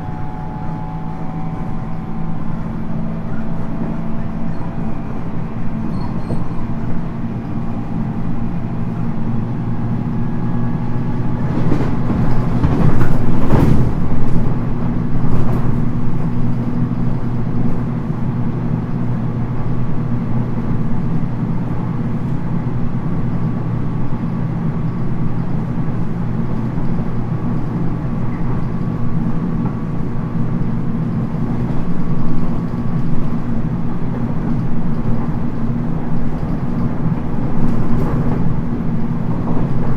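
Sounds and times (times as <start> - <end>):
train cabin hum: 0.0 - 39.9
train clattering: 0.0 - 39.9
wheel-on-rail rumble: 0.0 - 39.9.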